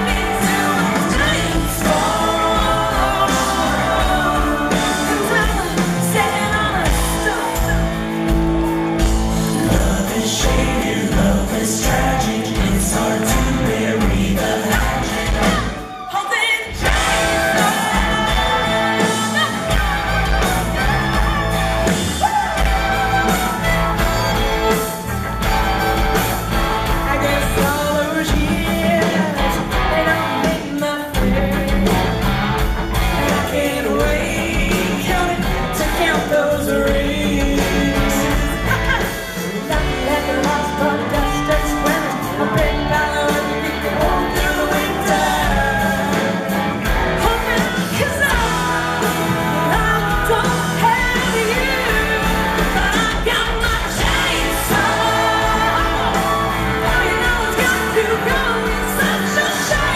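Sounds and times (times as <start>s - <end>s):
woman singing: 0.0s - 8.0s, 9.5s - 24.0s, 27.1s - 32.1s, 33.2s - 46.5s, 47.2s - 59.9s
live country-rock band: 0.0s - 59.9s.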